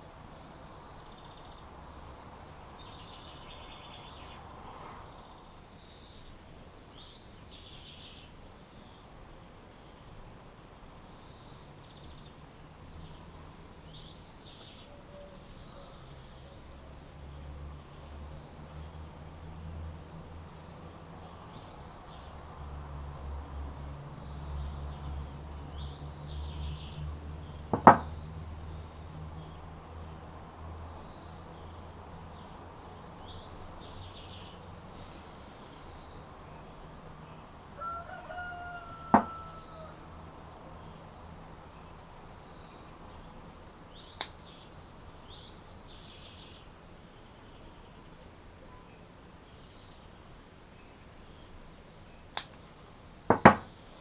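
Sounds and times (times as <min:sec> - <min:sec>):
birds chirping faintly: 0:00.0 - 0:54.0.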